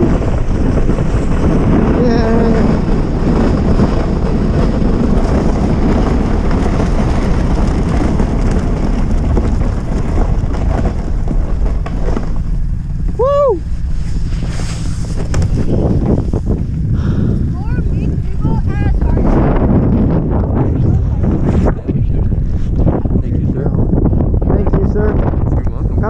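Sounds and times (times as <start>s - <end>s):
vehicle rumble: 0.0s - 26.0s
wind buffeting microphone: 0.0s - 26.0s.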